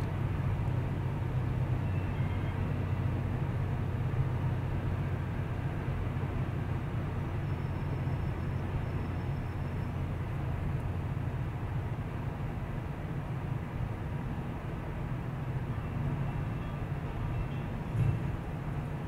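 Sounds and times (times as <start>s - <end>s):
in-cabin road rumble: 0.0s - 19.0s.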